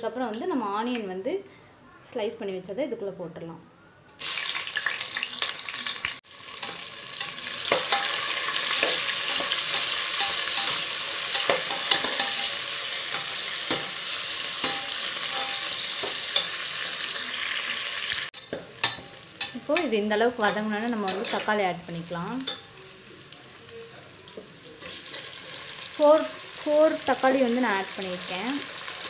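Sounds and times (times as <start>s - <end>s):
onions sizzling in oil: 4.2s - 29.0s.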